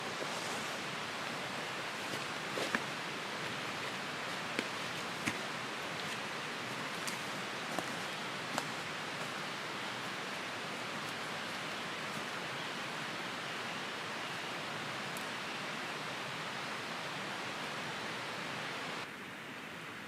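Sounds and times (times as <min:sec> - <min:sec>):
rushing outdoor noise: 0:00.0 - 0:20.0.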